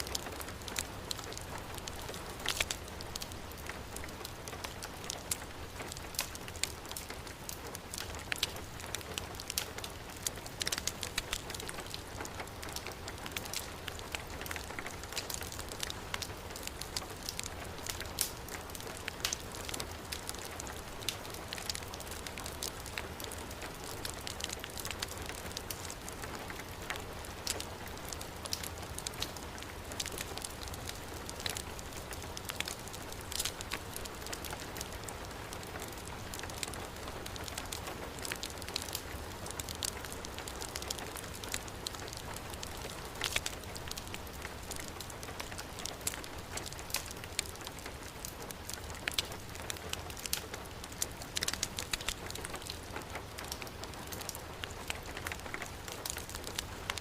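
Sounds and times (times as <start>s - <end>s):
heavy rain falling: 0.0s - 57.0s
wood fire crackling: 0.0s - 57.0s.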